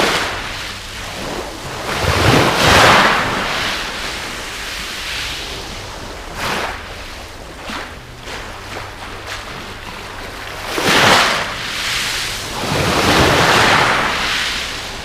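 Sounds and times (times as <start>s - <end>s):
waves washing on shingle: 0.0s - 15.0s.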